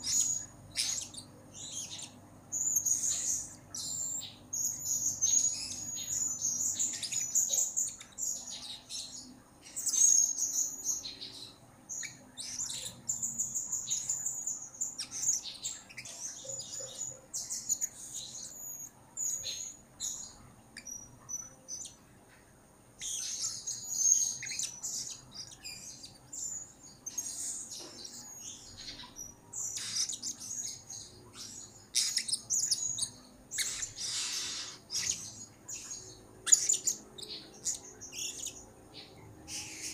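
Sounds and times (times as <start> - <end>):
parrot chirping: 0.0 - 9.1, 9.8 - 22.0, 23.0 - 39.9.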